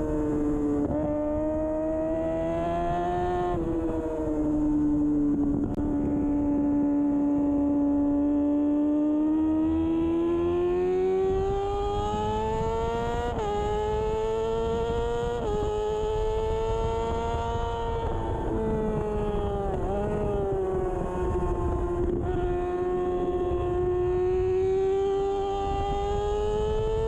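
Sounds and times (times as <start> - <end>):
motorcycle engine accelerating: 0.0 - 27.0.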